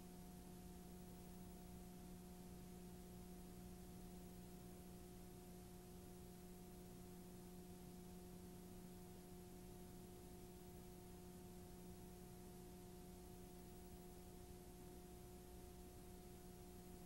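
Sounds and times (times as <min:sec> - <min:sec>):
faint steady hum: 0:00.0 - 0:17.0
low hiss: 0:00.0 - 0:17.0.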